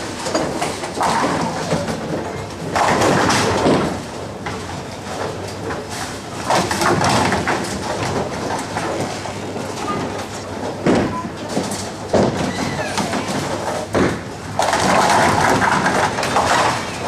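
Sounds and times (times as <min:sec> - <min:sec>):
bowling balls rolling: 0:00.0 - 0:17.0
bowling pins clattering: 0:00.0 - 0:17.0.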